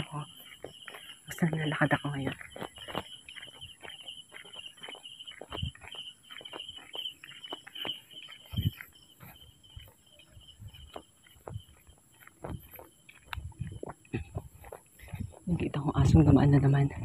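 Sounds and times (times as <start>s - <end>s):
footsteps walking on a road: 0.0s - 17.0s
insects chirping: 0.0s - 17.0s.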